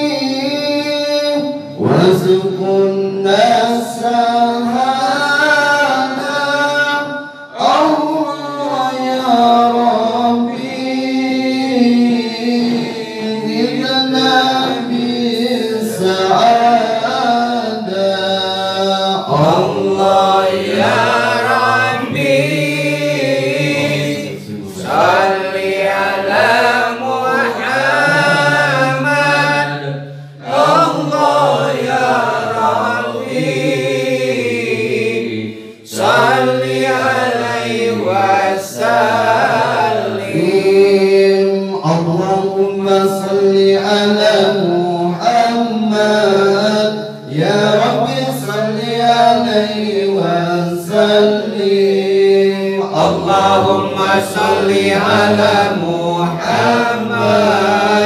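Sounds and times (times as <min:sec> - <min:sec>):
men chanting through microphones: 0:00.0 - 0:58.0.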